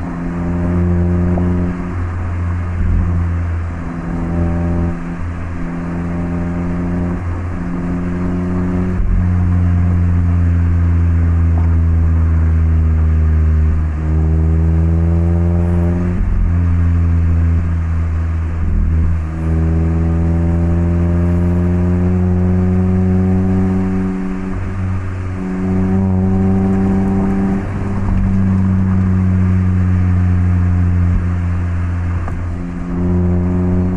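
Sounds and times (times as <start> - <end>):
car engine revving through gears: 0.0 - 33.9.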